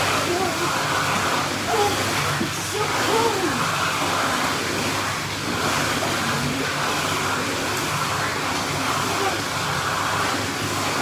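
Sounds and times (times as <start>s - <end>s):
water rushing in indoor pool: 0.0s - 11.0s.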